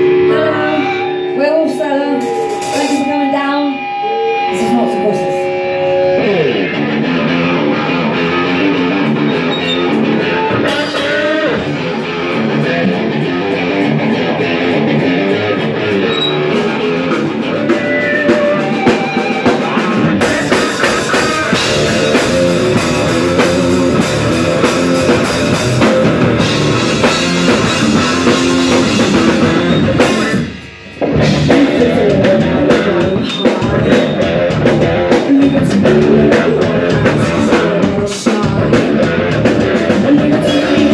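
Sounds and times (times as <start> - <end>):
drum kit: 0.0 - 5.2, 5.8 - 40.9
bass guitar: 0.0 - 40.9
electric guitar: 0.0 - 40.9.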